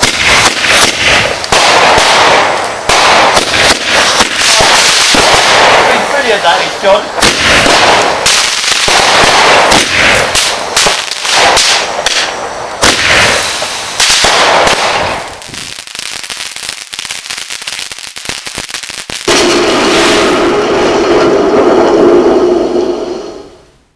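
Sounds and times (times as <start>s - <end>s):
fireworks bangs and crackles: 0.0s - 22.8s
firework fountain crackling: 0.0s - 23.5s.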